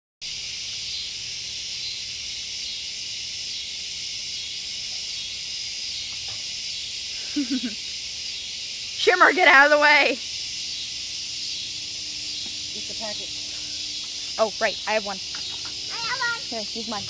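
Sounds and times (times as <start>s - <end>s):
insects chirping: 0.2s - 17.0s.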